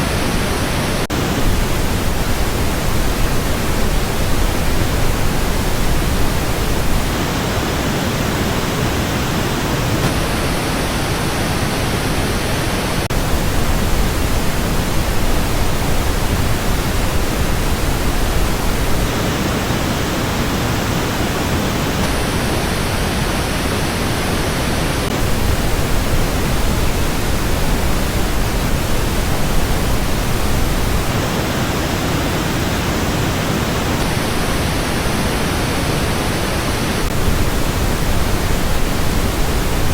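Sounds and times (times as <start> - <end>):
pink noise test signal: 0.0 - 39.9.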